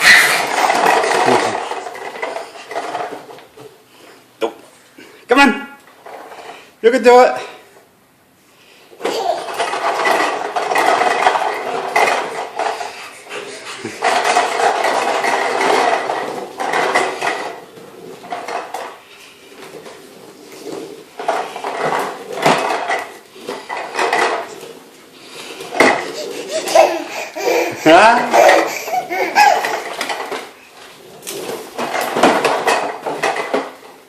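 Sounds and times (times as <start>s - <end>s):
toy lawnmower rattling: 0.0s - 3.4s, 9.0s - 34.0s.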